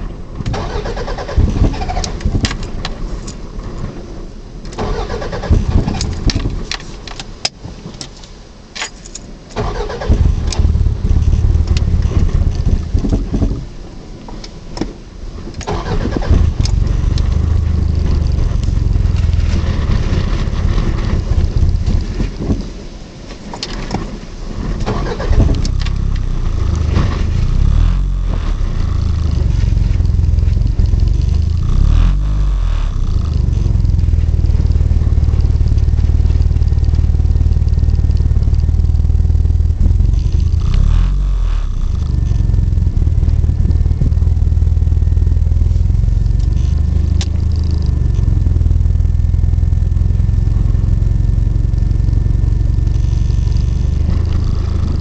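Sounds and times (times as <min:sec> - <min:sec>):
car engine starting and running unevenly: 0:00.0 - 0:55.0.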